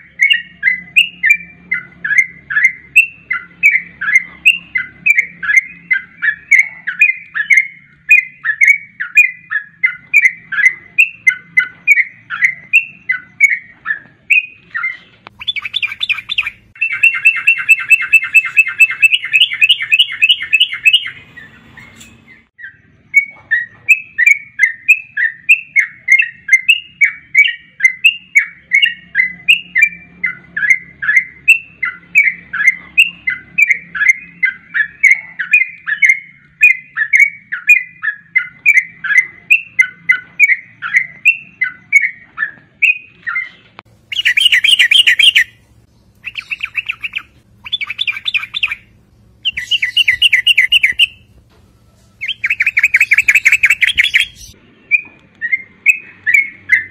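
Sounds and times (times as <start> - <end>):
buzzy chattering bird trills: 0.0 - 51.4, 52.0 - 54.6
bird chirping: 0.0 - 56.9.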